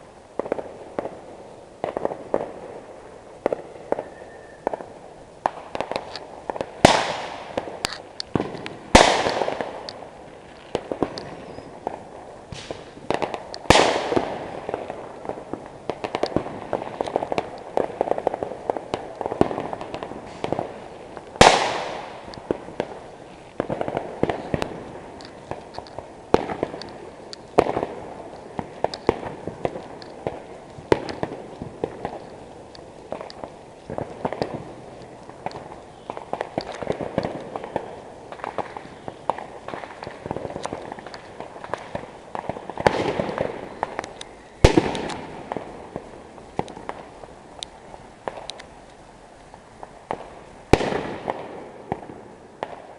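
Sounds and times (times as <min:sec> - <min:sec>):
firecracker pops crackling: 0:00.0 - 0:52.9
loud fireworks bangs with echo: 0:03.4 - 0:09.9, 0:10.7 - 0:25.6, 0:26.3 - 0:32.5, 0:33.1 - 0:44.0, 0:44.6 - 0:47.1, 0:50.1 - 0:52.9.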